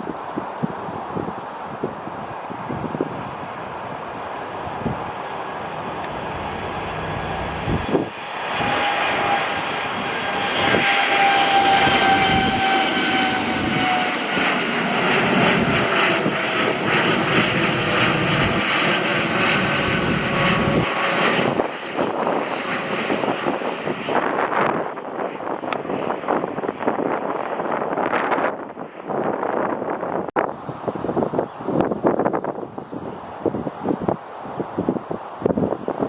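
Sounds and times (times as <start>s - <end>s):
airliner engines passing: 0.0s - 36.0s.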